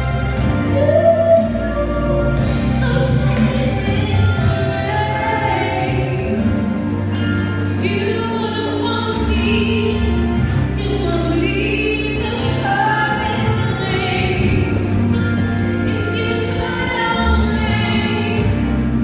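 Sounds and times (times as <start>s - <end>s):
woman singing into microphone: 0.6s - 15.2s, 15.8s - 19.0s.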